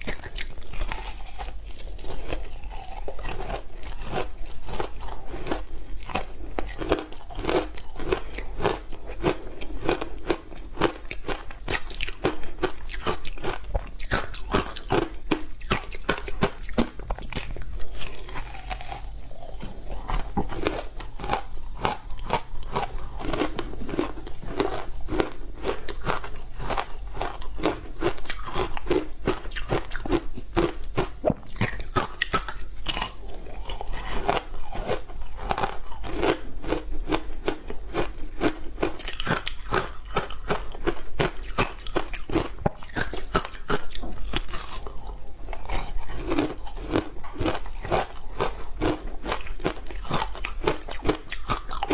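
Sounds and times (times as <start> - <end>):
crunching frozen ice: 0.0 - 51.9.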